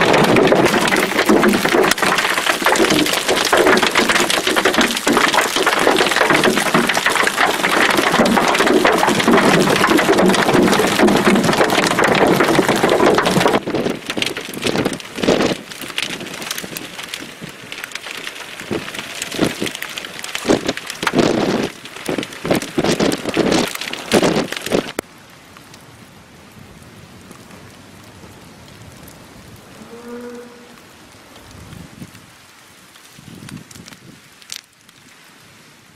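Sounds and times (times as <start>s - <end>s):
hail and rain pelting ground: 0.0s - 29.8s, 30.7s - 35.9s.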